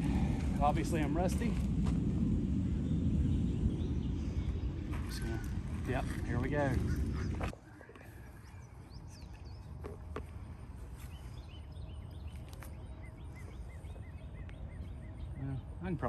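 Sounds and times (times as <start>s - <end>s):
steady low rumble: 0.0s - 16.0s
bird singing: 2.6s - 16.0s.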